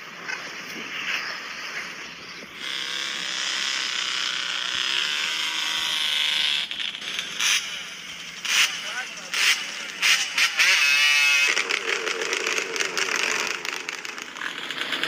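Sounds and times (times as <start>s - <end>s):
small engine running: 0.1s - 15.0s.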